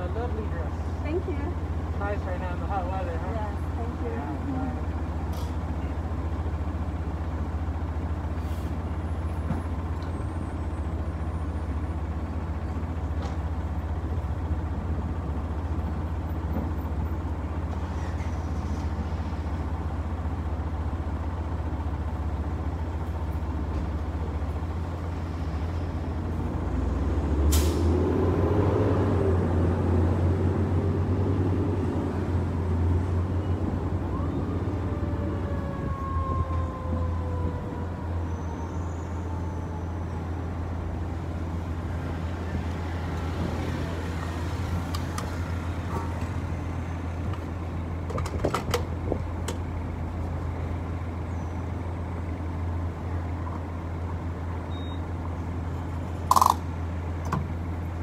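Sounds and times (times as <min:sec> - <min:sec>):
passing road traffic: 0:00.0 - 0:58.0.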